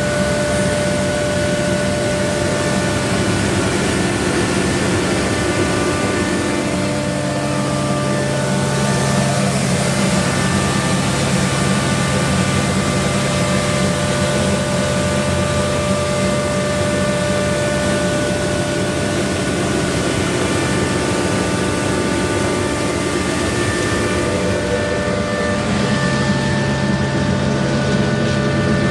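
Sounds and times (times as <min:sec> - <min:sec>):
steady whining tones: 0:00.0 - 0:28.9
street sweeper engine rushing: 0:00.0 - 0:28.9.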